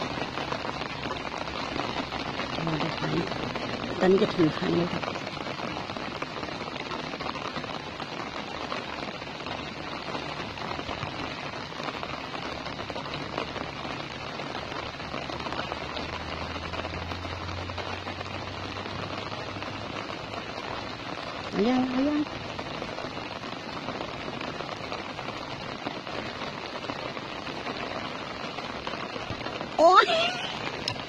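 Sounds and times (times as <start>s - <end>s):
light rain pattering: 0.0s - 31.0s.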